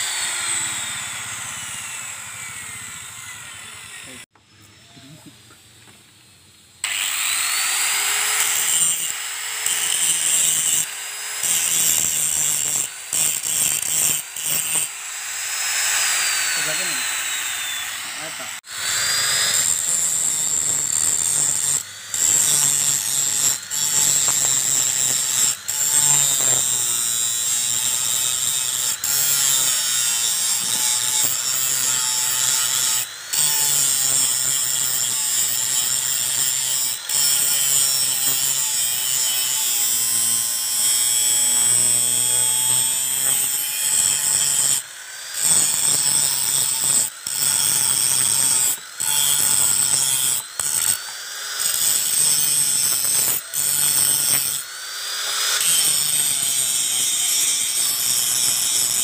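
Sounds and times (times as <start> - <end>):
angle grinder grinding steel: 0.0 - 5.7, 6.8 - 59.0.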